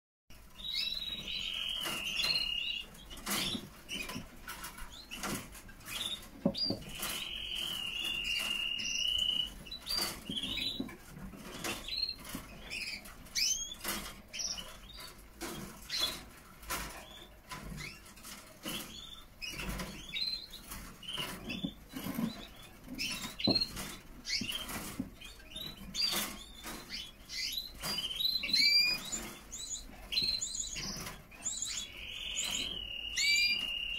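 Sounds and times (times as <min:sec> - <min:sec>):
canaries chirping: 0:00.3 - 0:33.9.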